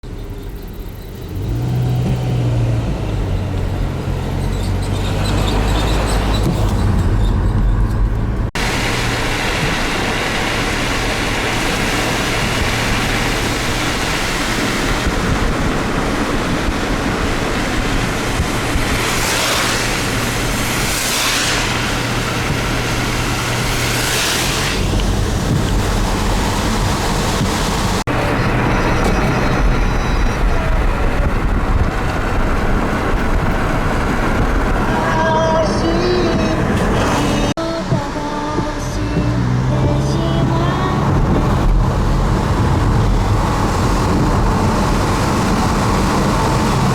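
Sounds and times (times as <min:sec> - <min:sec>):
car engine hum: 0:00.0 - 0:46.9
road noise: 0:00.0 - 0:46.9
passing vehicle swishes: 0:01.3 - 0:46.9.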